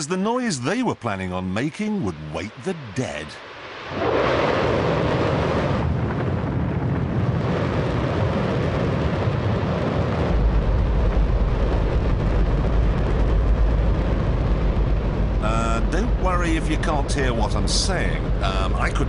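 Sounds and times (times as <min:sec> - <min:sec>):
rocket engine roaring: 0:00.2 - 0:19.0.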